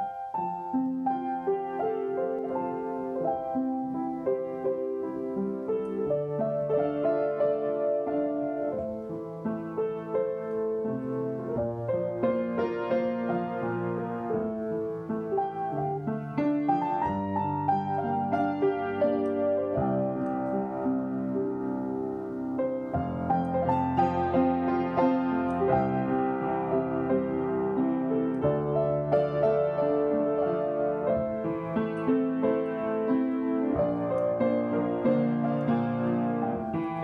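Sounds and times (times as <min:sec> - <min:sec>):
upright piano playing: 0:00.0 - 0:37.0.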